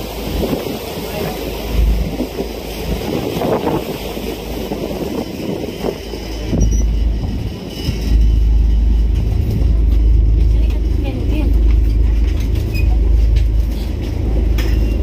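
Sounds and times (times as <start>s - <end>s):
ferry engine rumble: 0.0s - 15.0s
wind noise on microphone: 0.0s - 15.0s.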